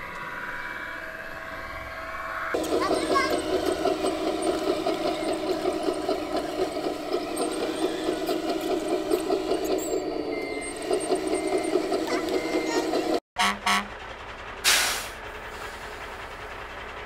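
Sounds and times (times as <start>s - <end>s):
simulated diesel engine rattle: 2.6s - 17.0s.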